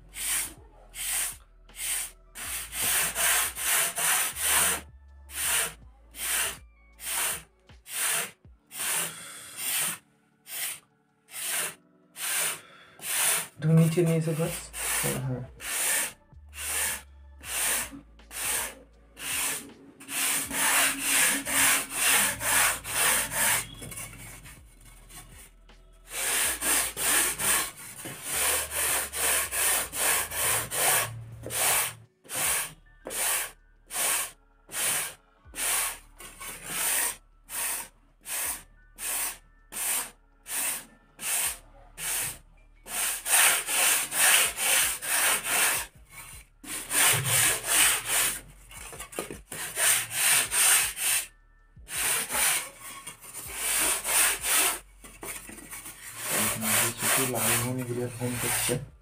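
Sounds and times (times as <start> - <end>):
sandpaper scraping foam: 0.1 - 25.2, 26.1 - 51.3, 51.9 - 58.9.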